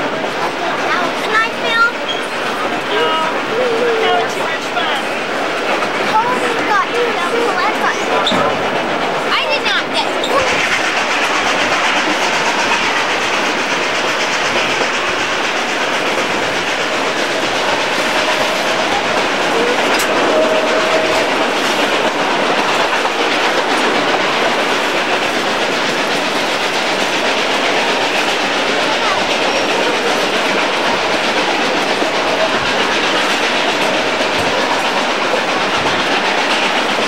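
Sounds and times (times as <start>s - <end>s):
train wheels clickety-clack: 0.0s - 37.0s.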